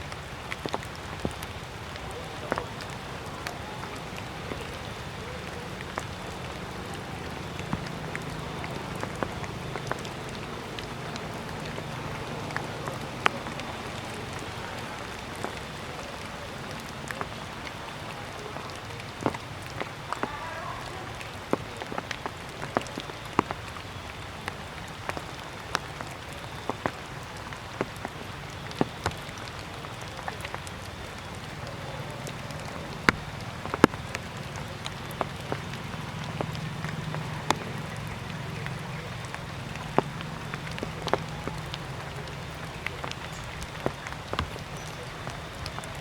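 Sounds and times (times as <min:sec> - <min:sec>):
water dripping from trees: 0:00.0 - 0:46.0.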